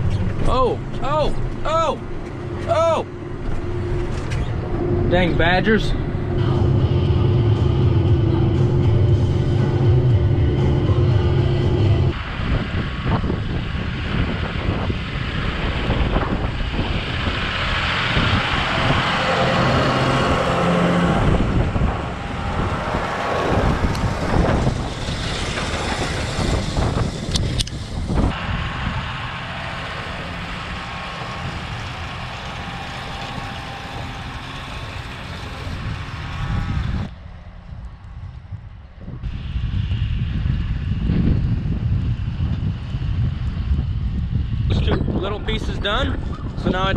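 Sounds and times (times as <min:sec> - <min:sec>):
tractor running under load: 0:00.0 - 0:37.7
wind noise on microphone: 0:00.0 - 0:46.9.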